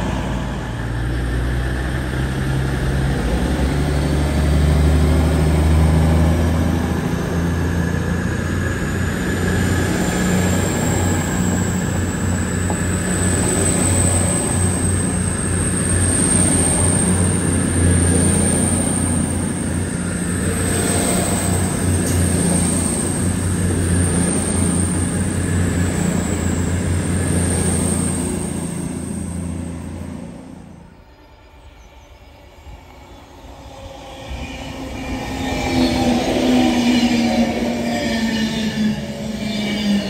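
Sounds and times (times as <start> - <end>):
electric train passing: 0.0 - 40.0
train running past drone: 0.0 - 40.0.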